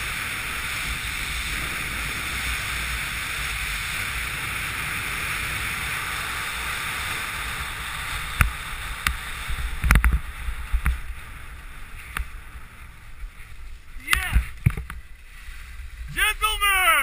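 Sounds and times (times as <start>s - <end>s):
wind rushing over microphone: 0.0s - 16.7s
skis clicking on hard snow: 0.0s - 17.0s.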